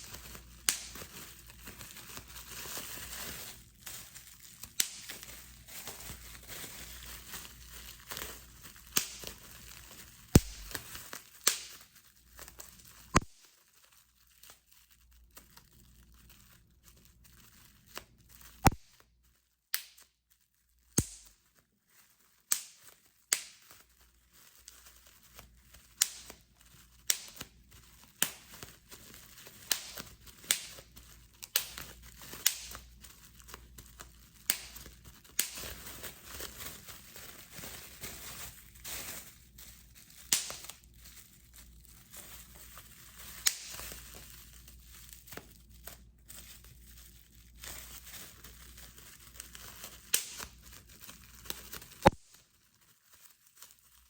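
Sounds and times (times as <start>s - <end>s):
bubble wrap bubbles popping: 0.0s - 15.6s, 17.6s - 20.2s, 20.8s - 21.8s, 22.4s - 46.0s, 47.5s - 54.0s
bubble wrap crinkling: 0.0s - 54.0s.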